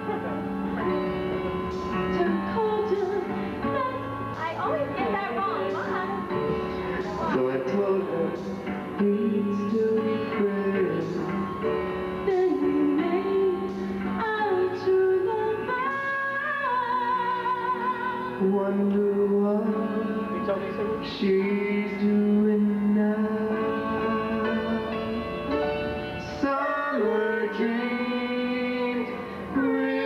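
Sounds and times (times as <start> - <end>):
musical accompaniment: 0.0 - 30.0
woman and man singing duet: 1.9 - 25.5, 26.2 - 30.0.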